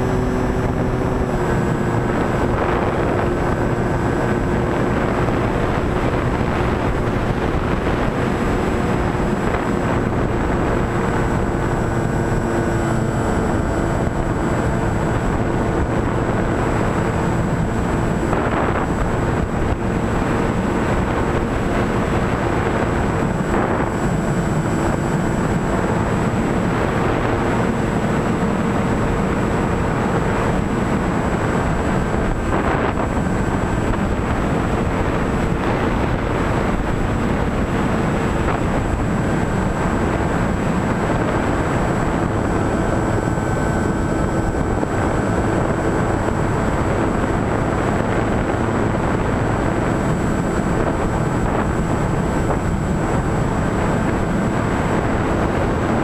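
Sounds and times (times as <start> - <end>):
electric motor and propeller humming: 0.0 - 56.0
rush of air: 0.0 - 56.0.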